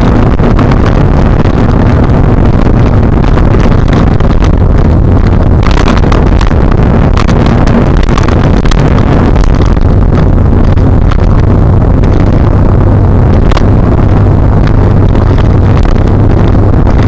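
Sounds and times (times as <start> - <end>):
car engine drone: 0.0 - 17.0
road and wind rumble: 0.0 - 17.0.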